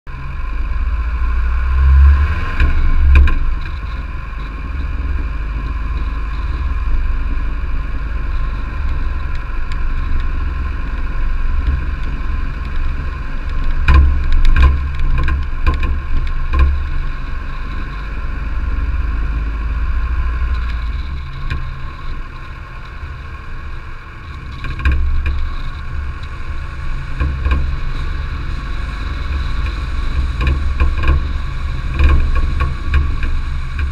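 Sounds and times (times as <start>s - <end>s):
car on gravel road rumbling: 0.1s - 33.9s.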